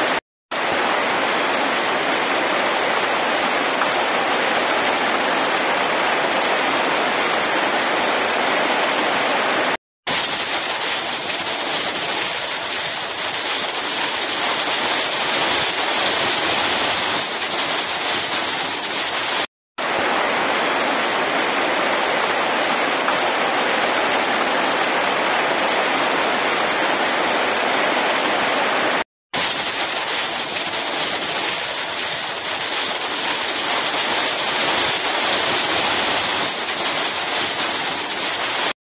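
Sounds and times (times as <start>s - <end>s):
heavy rain falling: 0.0s - 38.8s.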